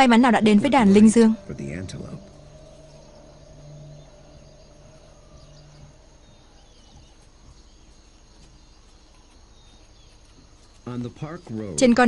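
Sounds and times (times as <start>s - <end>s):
low hum: 0.0s - 10.9s
high bird chirps: 0.0s - 11.8s
steady hiss: 1.2s - 11.9s.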